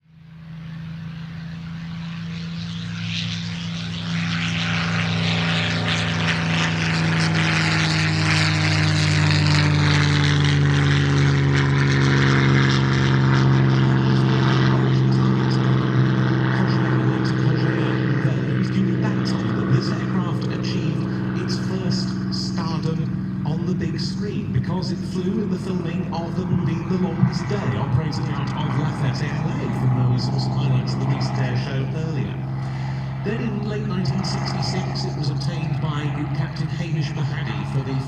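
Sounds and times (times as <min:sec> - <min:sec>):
piston aircraft engine droning: 0:00.0 - 0:38.0.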